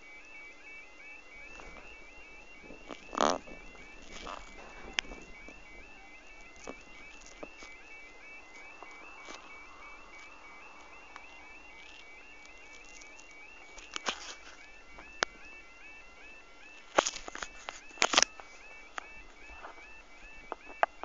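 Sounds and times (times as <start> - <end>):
level crossing alarm: 0.0 - 21.0.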